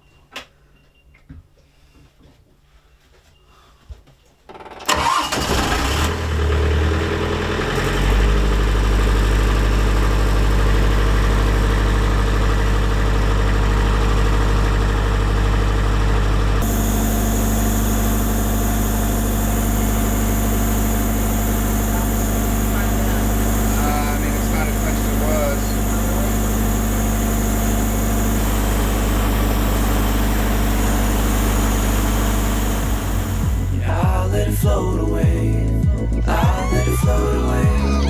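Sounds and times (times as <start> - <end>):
diesel engine cranking and idling: 4.6 - 38.0.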